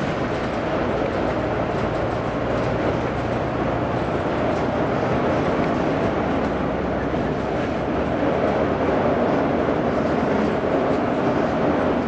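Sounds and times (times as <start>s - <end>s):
bus diesel engine running: 0.0s - 12.0s
road and body noise: 0.0s - 12.0s.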